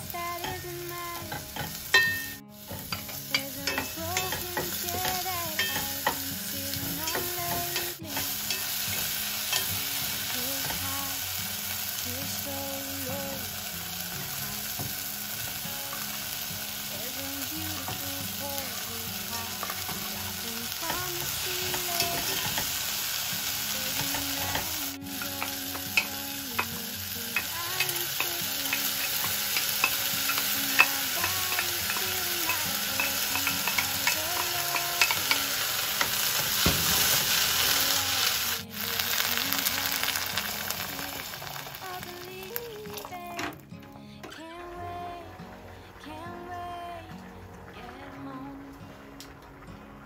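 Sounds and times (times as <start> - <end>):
food sizzling in a pot: 0.0 - 43.6.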